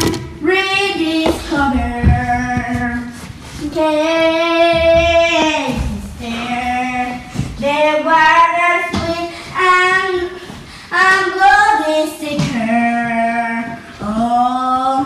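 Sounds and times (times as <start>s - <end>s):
child singing: 0.0s - 15.0s.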